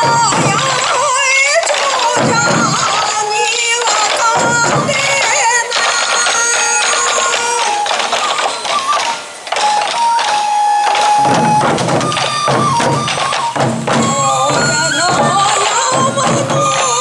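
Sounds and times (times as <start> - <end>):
flute melody: 0.0 - 17.0
taiko drums beating fast: 0.0 - 17.0.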